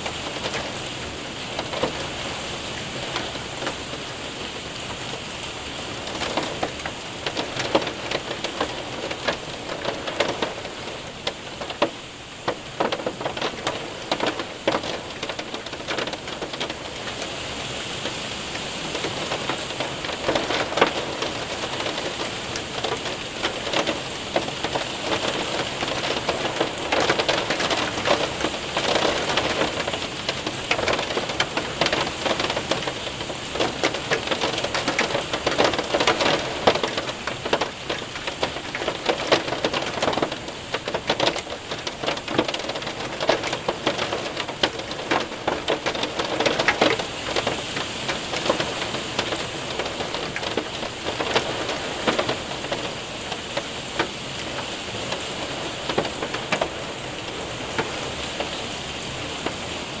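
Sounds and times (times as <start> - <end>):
hailstones ticking: 0.0 - 60.0
rain on window and roof: 0.0 - 60.0.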